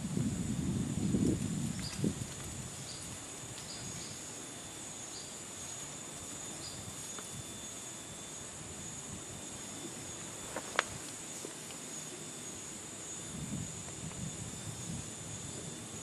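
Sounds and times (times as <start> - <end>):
insects droning: 0.0 - 16.0
short high insect chirps: 1.0 - 16.0.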